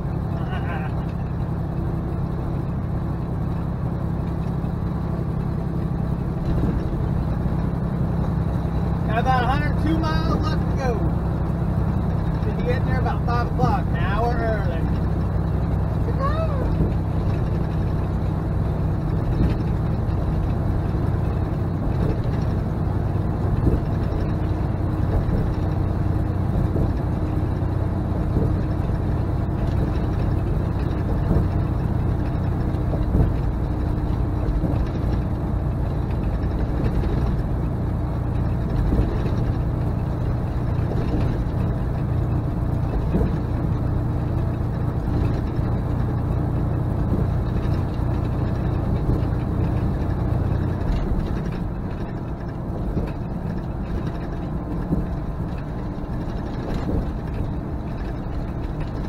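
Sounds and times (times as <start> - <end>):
road noise: 0.0 - 59.0
truck diesel engine drone: 0.0 - 59.0.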